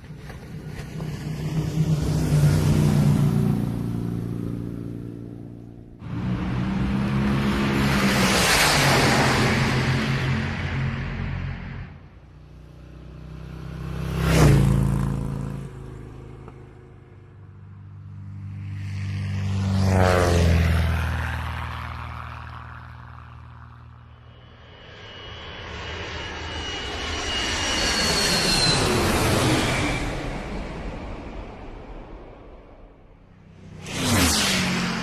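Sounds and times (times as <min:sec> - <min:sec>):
aircraft engines passing by: 0:00.0 - 0:35.0
high engine whine: 0:00.0 - 0:35.0.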